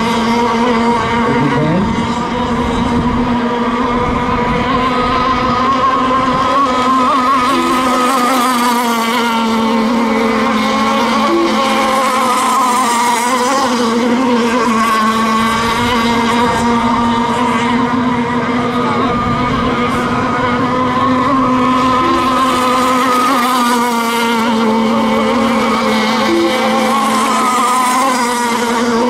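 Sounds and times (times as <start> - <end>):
model boat motors whining: 0.0 - 29.0.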